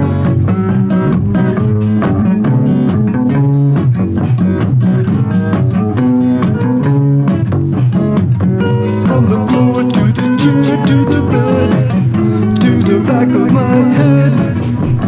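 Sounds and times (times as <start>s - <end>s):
guitar and bass playing: 0.0s - 15.0s.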